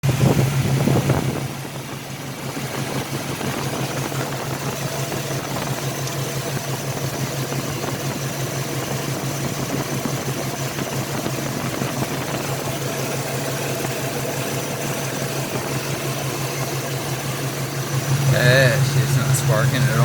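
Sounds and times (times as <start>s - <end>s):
engine idling with a misfire: 0.0s - 20.0s.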